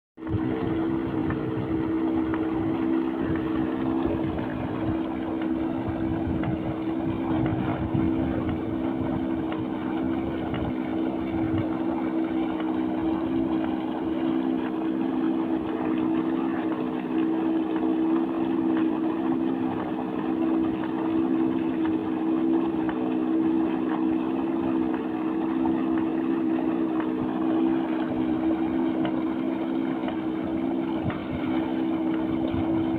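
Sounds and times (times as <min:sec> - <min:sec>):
water pouring and splashing: 0:00.2 - 0:32.9
water pump humming: 0:00.2 - 0:32.9.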